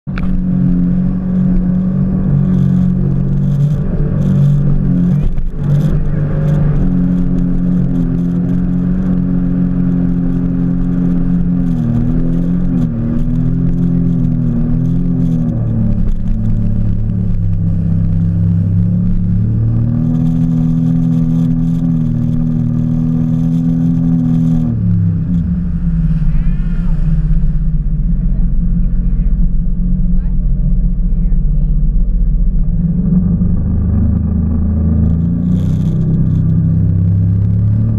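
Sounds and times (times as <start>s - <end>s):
jet ski engine running: 0.1s - 35.2s.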